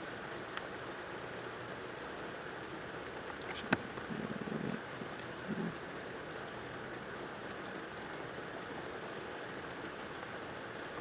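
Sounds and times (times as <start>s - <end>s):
steady rain hissing: 0.0s - 11.0s.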